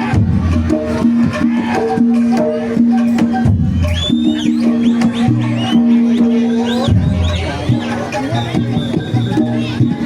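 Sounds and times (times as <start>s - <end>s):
quick drum and percussion strokes: 0.0s - 10.0s.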